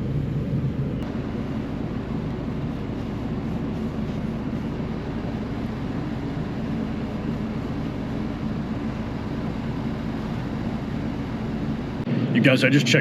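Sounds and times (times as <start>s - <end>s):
air conditioner humming and blowing: 0.0s - 13.0s.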